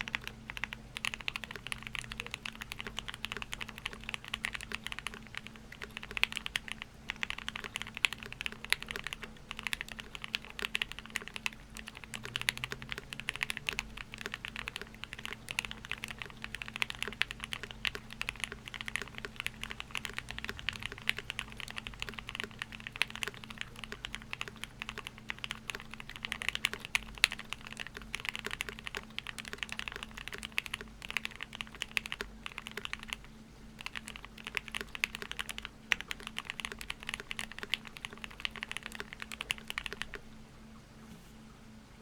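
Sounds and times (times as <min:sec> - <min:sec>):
mechanical keyboard typing: 0:00.0 - 0:40.2.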